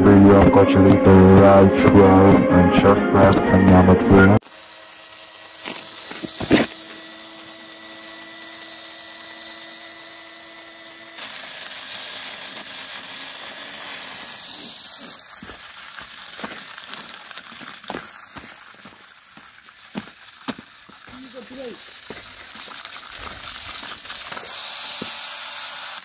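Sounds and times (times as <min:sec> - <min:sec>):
small motors whining: 0:00.0 - 0:26.0
toy tractor running on dirt: 0:00.0 - 0:26.0.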